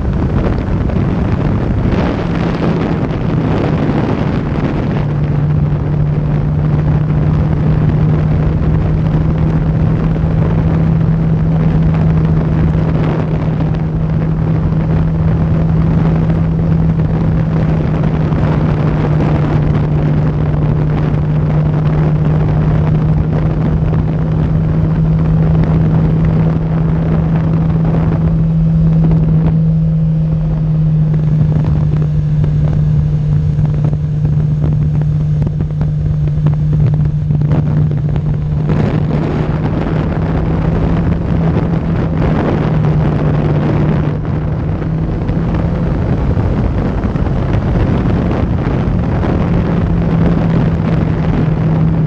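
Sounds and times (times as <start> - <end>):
motorcycle engine cruising: 0.0 - 52.0
wind on microphone: 0.0 - 52.0.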